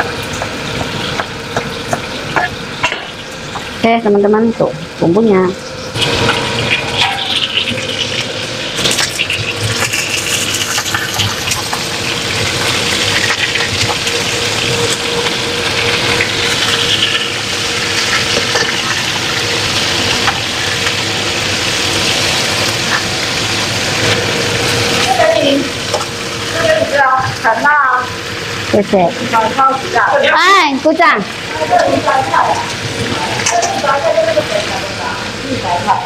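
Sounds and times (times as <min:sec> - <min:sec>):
fish sizzling in hot oil: 0:00.0 - 0:36.0.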